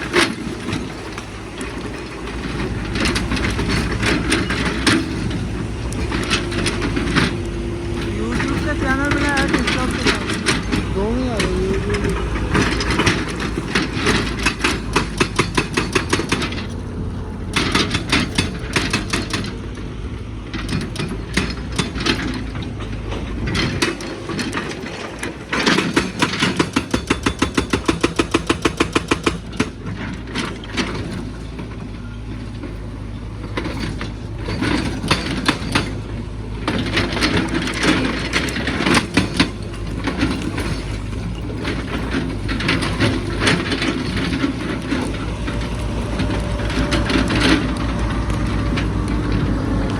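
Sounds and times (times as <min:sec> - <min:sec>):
rapid metal clanks: 0:00.0 - 0:19.8, 0:20.4 - 0:49.5
excavator diesel engine: 0:00.0 - 0:49.9.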